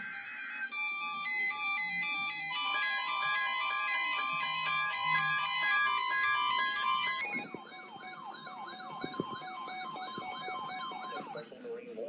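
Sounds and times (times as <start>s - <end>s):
music: 0.0s - 11.4s
siren-style alarm: 0.0s - 11.4s.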